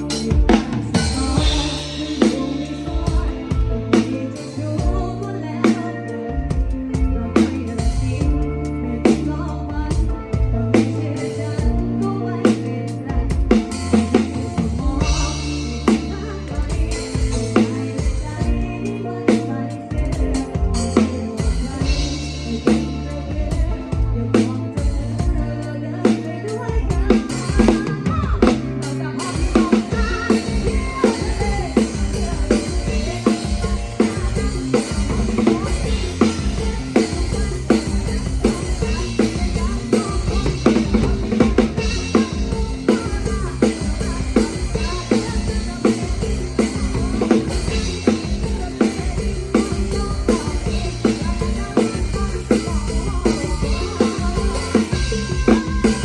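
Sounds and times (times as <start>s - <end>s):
band playing: 0.0s - 56.0s.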